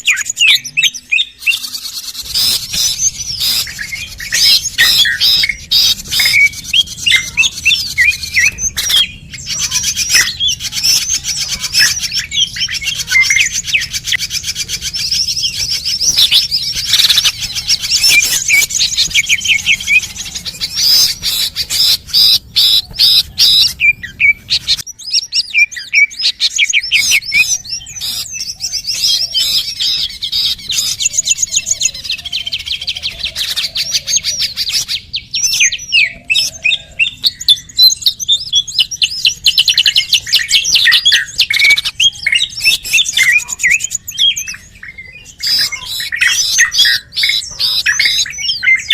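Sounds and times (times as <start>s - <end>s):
small birds chirping and twittering: 0.0s - 48.9s.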